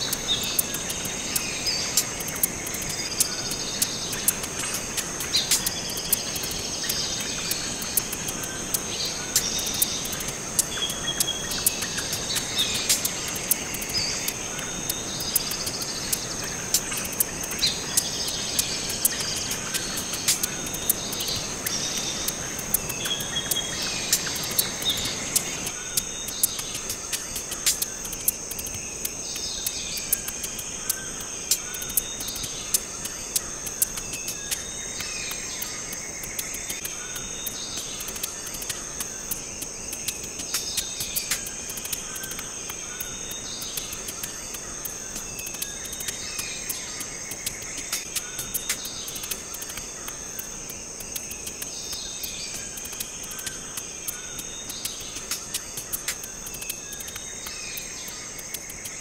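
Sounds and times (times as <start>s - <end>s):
high-pitched insect trill: 0.0s - 59.0s
irregular sharp clicks: 0.0s - 59.0s.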